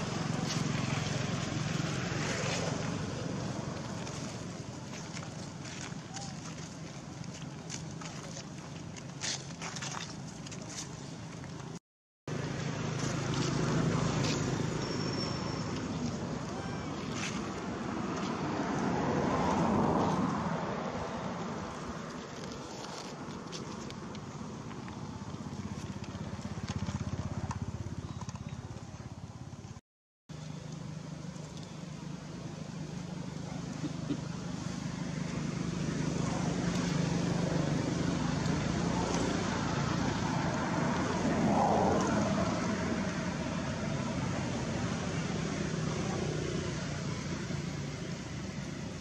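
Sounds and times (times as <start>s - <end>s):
motor vehicle passing: 0.0s - 10.1s, 12.3s - 29.6s, 30.3s - 49.0s
traffic rumble: 0.0s - 49.0s.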